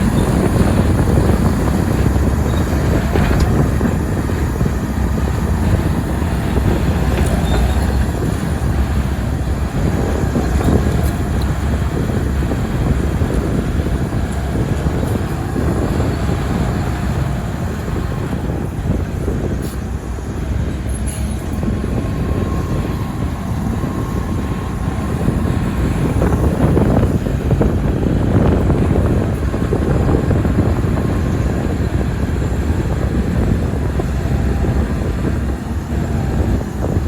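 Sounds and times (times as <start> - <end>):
diesel machinery engine rumble: 0.0 - 37.0.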